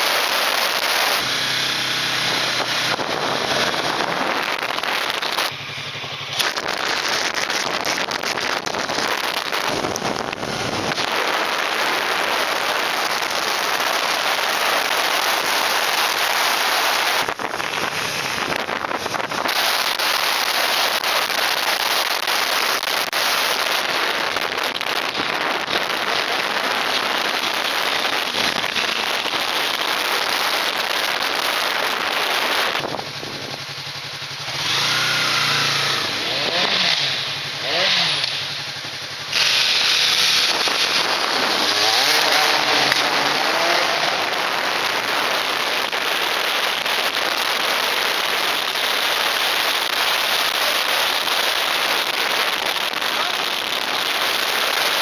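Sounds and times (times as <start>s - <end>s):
engine rising and falling: 0.0s - 55.0s.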